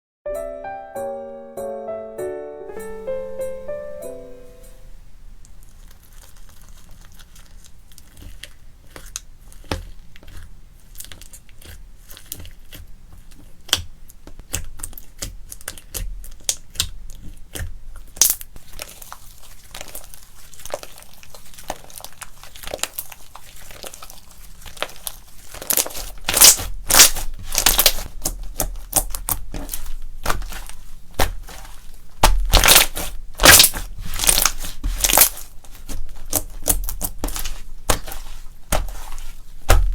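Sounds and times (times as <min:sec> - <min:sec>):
slime crackling and popping: 0:05.4 - 0:39.9.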